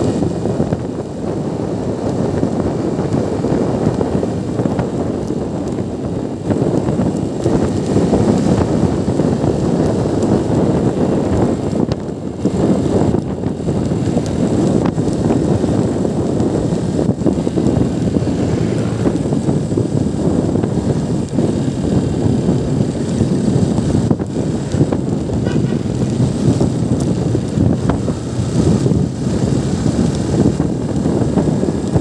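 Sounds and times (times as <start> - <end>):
rush of motorcycle ride: 0.0 - 32.0
wind buffeting microphone: 0.0 - 32.0.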